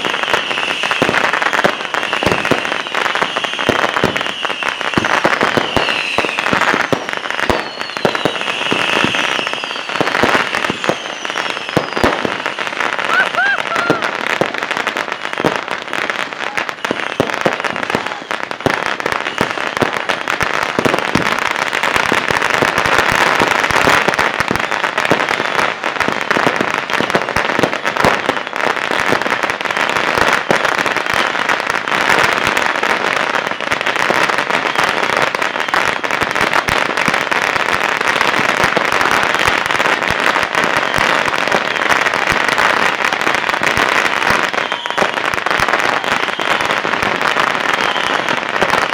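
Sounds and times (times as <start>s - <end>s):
firecrackers crackling: 0.0s - 48.9s.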